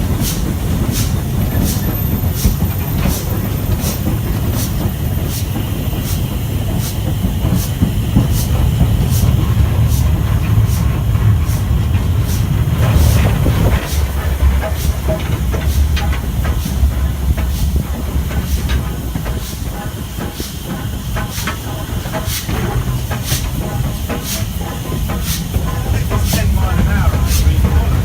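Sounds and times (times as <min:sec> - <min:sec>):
steam locomotive running: 0:00.0 - 0:28.0.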